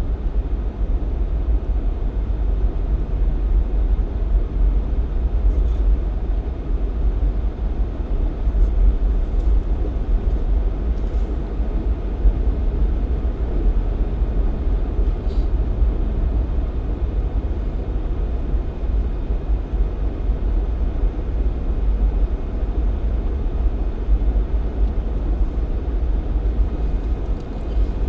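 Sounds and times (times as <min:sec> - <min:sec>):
car engine rumble: 0:02.5 - 0:28.0.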